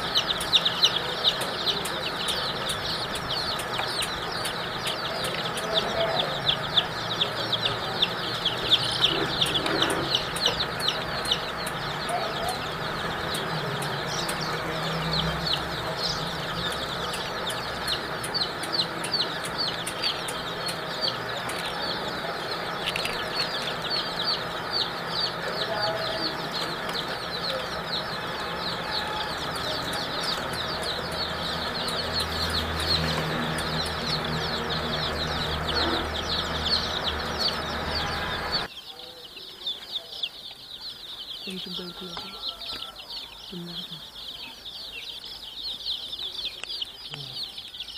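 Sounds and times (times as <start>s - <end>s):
baby chicks peeping: 0.0s - 47.9s.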